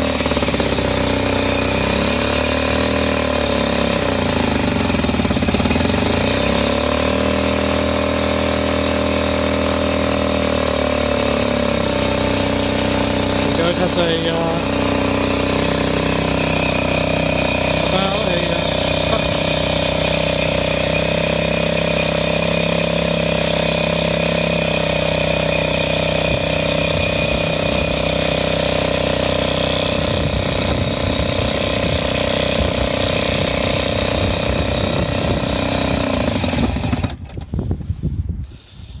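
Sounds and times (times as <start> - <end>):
outboard motor running: 0.0 - 39.0.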